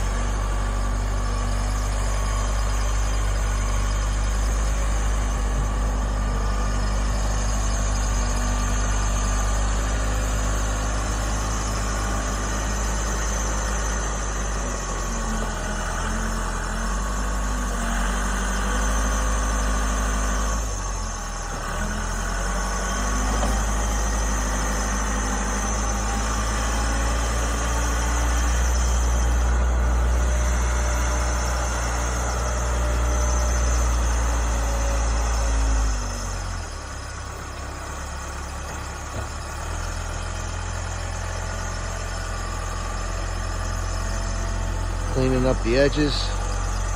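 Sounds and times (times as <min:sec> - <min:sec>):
backhoe diesel engine running: 0:00.0 - 0:46.9.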